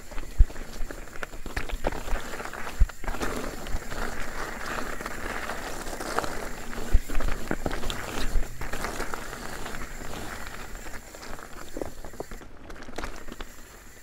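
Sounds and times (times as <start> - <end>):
bike knocking on rocks: 0.0 - 14.0
bike tyres hissing over dirt: 0.0 - 14.0.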